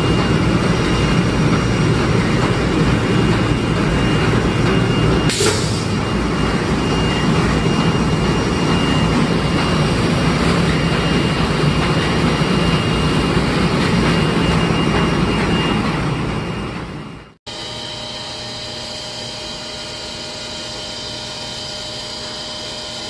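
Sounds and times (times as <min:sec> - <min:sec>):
factory machinery drone: 0:00.0 - 0:23.0.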